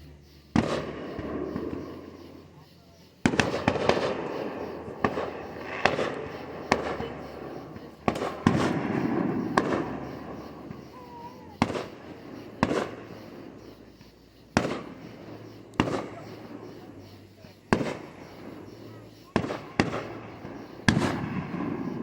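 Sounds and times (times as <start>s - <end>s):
fireworks bangs with rumbling echo: 0.5s - 22.0s.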